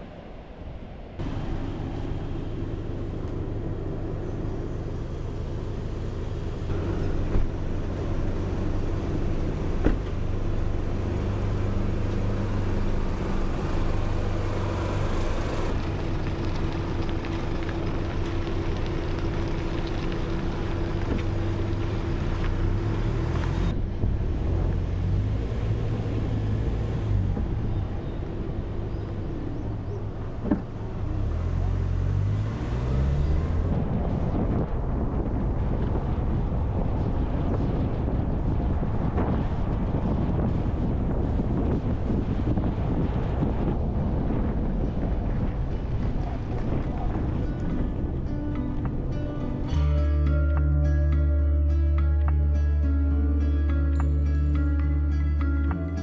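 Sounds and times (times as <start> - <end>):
road noise: 0.0 - 56.0
vehicle engine drone: 0.0 - 56.0.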